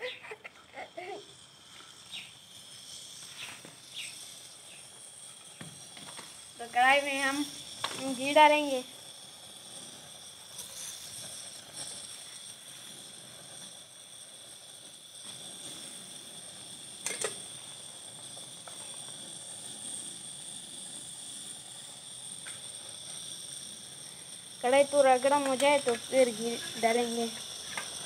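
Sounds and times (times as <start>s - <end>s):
gas burner hissing: 0.0s - 28.0s.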